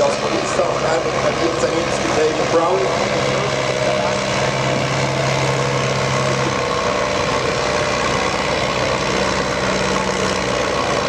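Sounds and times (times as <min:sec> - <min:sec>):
diesel tractor engine under load: 0:00.0 - 0:11.0.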